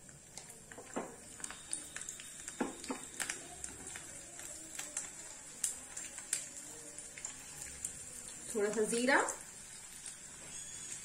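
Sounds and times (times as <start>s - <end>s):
hot oil sizzling: 0.0s - 11.0s
sharp crackles and pops: 0.0s - 11.0s.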